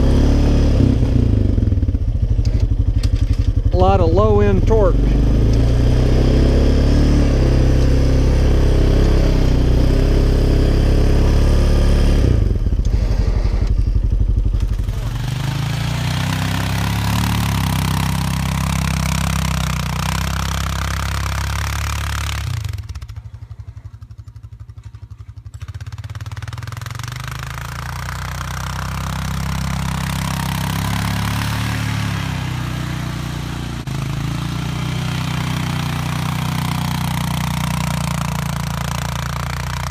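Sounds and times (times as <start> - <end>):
atv engine under load: 0.0 - 39.9.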